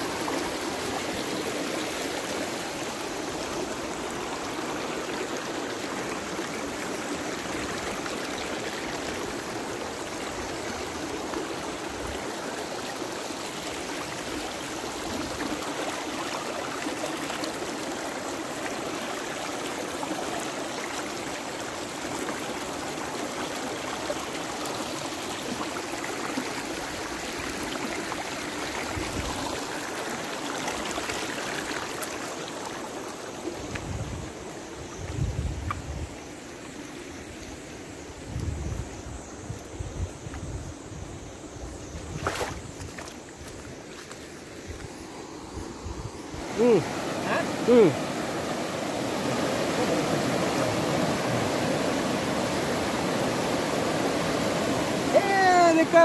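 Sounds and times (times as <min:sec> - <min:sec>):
river water rushing: 0:00.0 - 0:38.3, 0:40.7 - 0:56.0.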